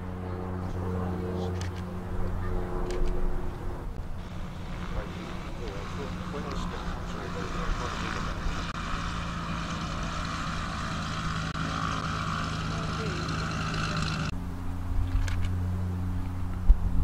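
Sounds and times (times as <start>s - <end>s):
light aircraft engine running: 0.0s - 17.0s.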